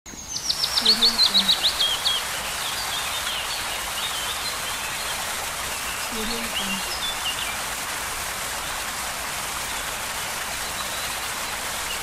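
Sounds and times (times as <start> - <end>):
waterfall pouring into pool: 0.5 - 12.0.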